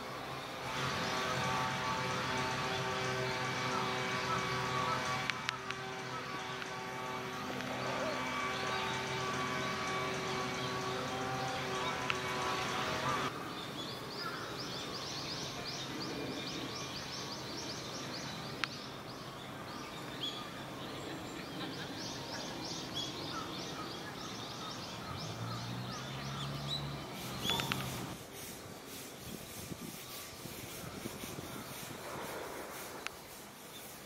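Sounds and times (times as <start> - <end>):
birds chirping: 0.0 - 34.0
outdoor background noise: 0.0 - 34.0.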